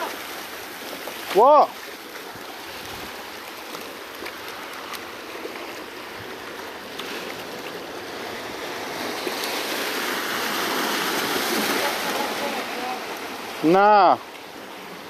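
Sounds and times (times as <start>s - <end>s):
seawater washing over rocks: 0.0s - 15.0s.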